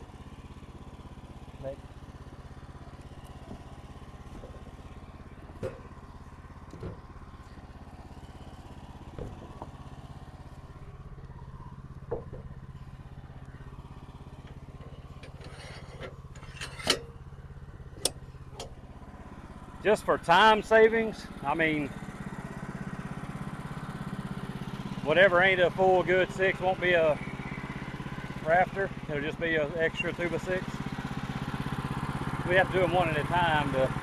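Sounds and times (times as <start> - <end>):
small engine idling: 0.0 - 34.0.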